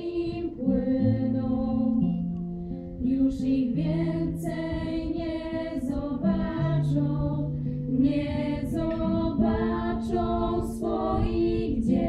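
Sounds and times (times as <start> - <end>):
women singing in harmony: 0.0 - 2.3, 3.0 - 12.0
acoustic guitar: 0.0 - 12.0.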